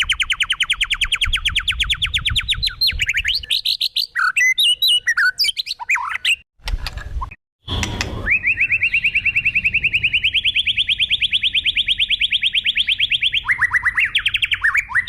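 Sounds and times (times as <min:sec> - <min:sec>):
songbird singing: 0:00.0 - 0:06.4, 0:08.2 - 0:15.0.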